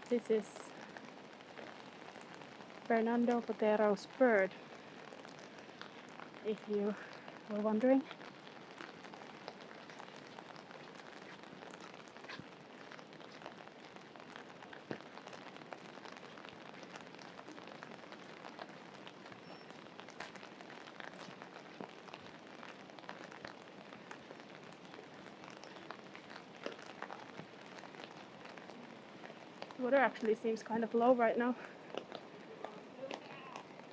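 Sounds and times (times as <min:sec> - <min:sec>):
raindrops ticking close: 0:00.0 - 0:33.9
steady rain falling: 0:00.0 - 0:33.9.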